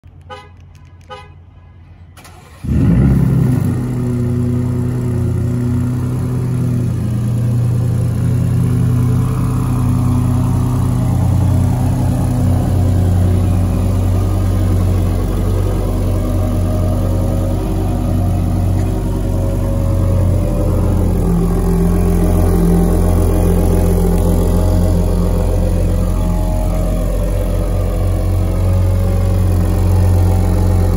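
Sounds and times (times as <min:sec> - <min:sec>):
engines starting and idling: 0:01.9 - 0:30.9.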